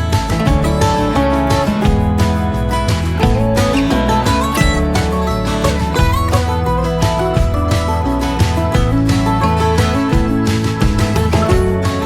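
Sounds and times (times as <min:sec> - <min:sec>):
country song singing: 0:00.0 - 0:12.0
strummed acoustic guitar: 0:00.0 - 0:12.0.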